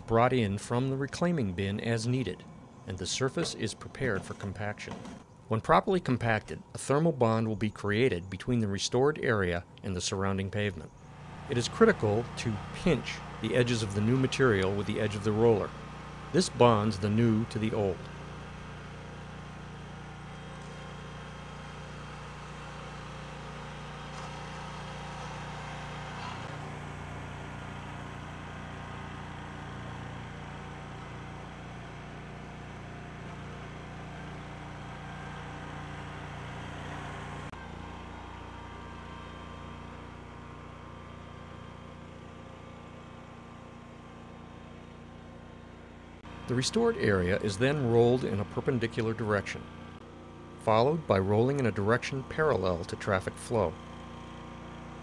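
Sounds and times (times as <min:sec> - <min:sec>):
asphalt roller engine running: 0:00.0 - 0:05.4, 0:10.9 - 0:55.0.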